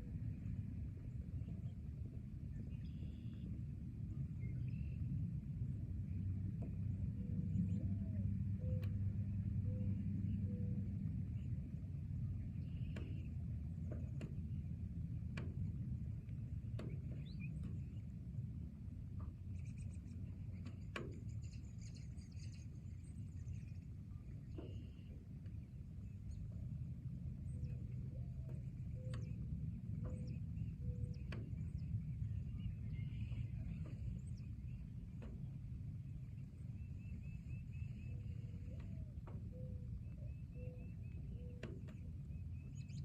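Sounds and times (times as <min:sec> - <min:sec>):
low forest rumble: 0:00.0 - 0:43.0.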